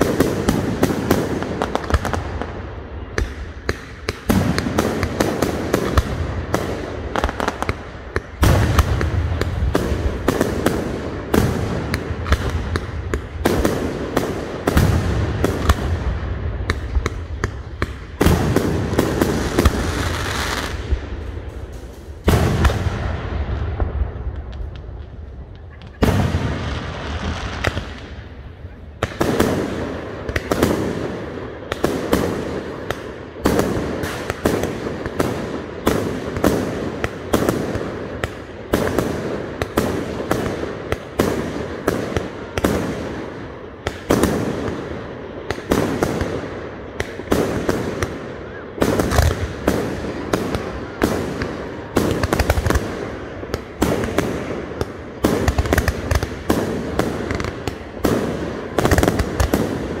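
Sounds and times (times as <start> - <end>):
fireworks bursting: 0.0 - 60.0.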